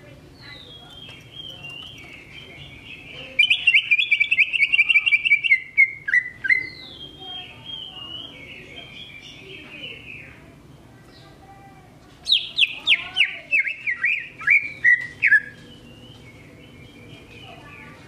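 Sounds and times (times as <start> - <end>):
bird singing: 0.0 - 11.4, 12.2 - 18.0.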